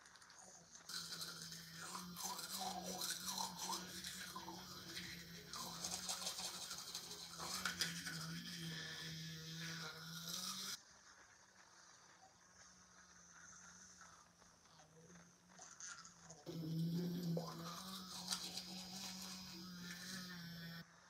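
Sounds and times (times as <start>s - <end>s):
electric toothbrush buzzing: 0.0s - 21.0s.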